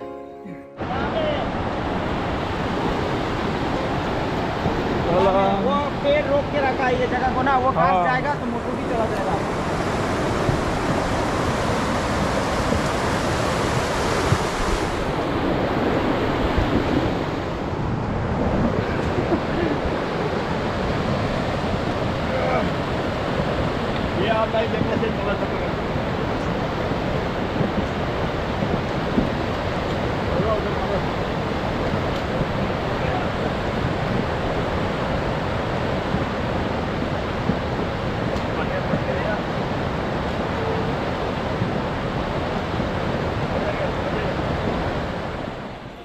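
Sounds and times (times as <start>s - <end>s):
river water rushing: 0.8s - 46.0s
wind buffeting microphone: 1.0s - 46.0s.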